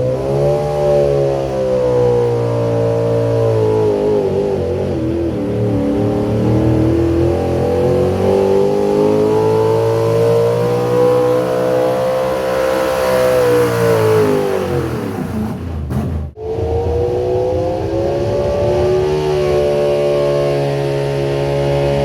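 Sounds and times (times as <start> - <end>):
vehicle engine revving under load: 0.0 - 22.0.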